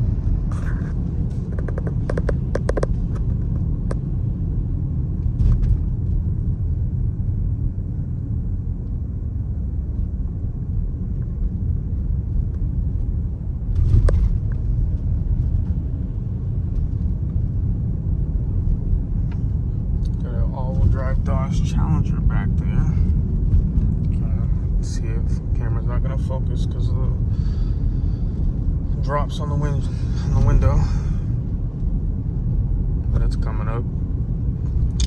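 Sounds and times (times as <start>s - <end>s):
car cabin road rumble: 0.0s - 35.0s.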